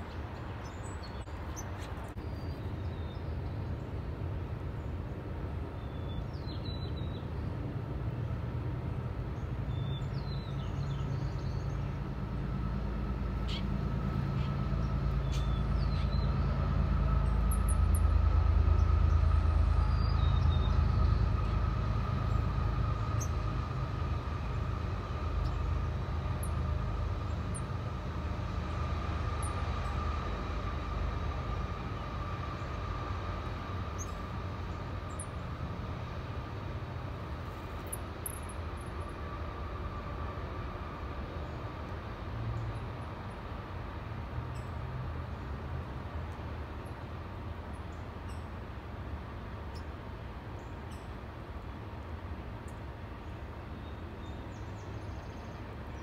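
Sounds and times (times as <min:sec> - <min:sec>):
passing vehicle rumble: 0:00.0 - 0:47.8.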